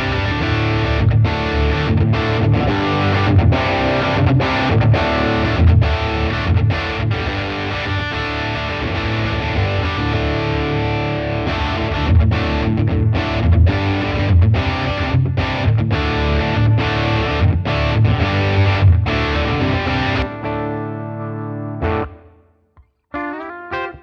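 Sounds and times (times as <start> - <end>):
overdriven electric guitar chords: 0.0 - 24.0.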